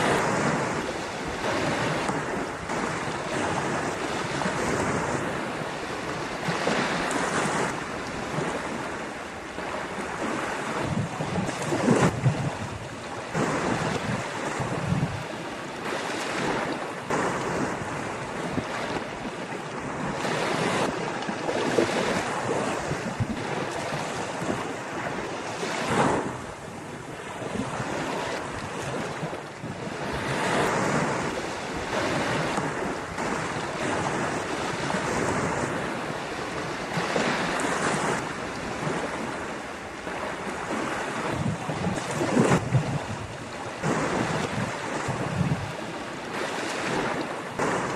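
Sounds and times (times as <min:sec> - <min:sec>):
ocean waves breaking on beach: 0:00.0 - 0:47.9
wind buffeting microphone: 0:00.0 - 0:47.9.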